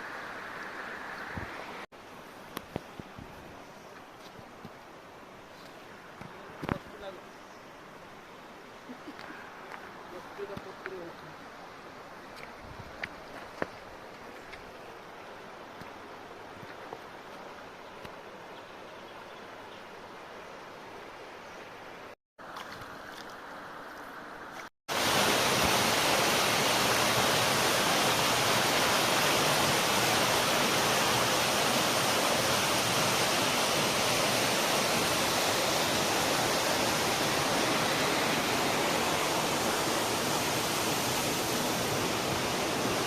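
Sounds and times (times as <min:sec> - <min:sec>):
stream and waterfall rushing: 0:00.0 - 0:03.6, 0:04.2 - 0:18.6, 0:19.4 - 0:43.0.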